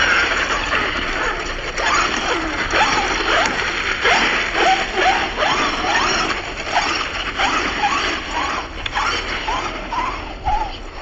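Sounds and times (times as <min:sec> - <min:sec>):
electric motor revving whine: 0:00.0 - 0:11.0
tyre and ground noise: 0:00.0 - 0:11.0.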